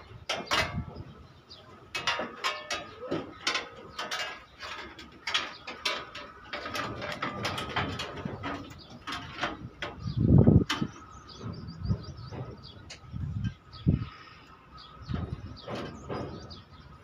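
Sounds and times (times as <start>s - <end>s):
metallic clicks and knocks: 0.0s - 13.7s, 14.8s - 17.0s.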